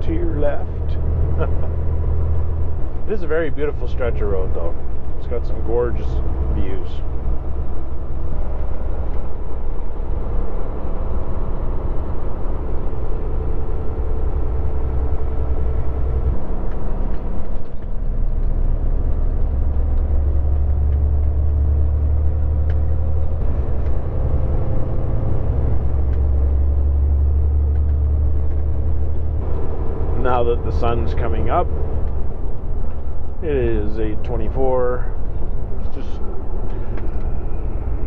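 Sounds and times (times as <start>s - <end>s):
truck engine and tyre drone: 0.0s - 38.0s.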